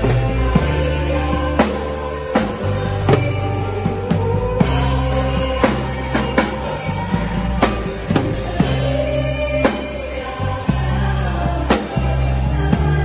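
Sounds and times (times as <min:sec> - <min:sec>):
bass notes: 0:00.0 - 0:13.0
choir singing: 0:00.0 - 0:13.0
drum kit beat: 0:00.0 - 0:13.0.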